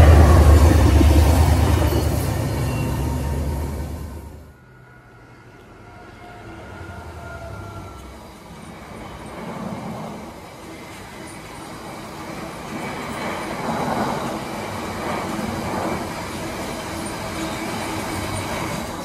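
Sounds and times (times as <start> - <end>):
diesel locomotive passing: 0.0 - 19.0
freight wagons rumbling on rails: 0.0 - 19.0.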